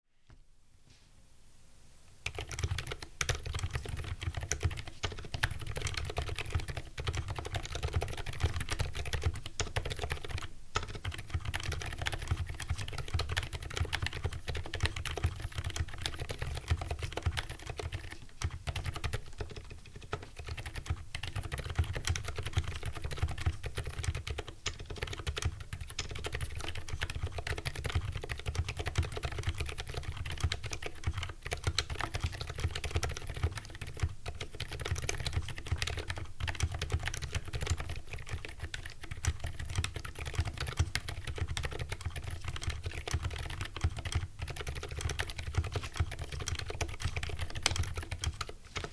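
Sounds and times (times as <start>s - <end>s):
mechanical keyboard typing: 2.2s - 48.9s.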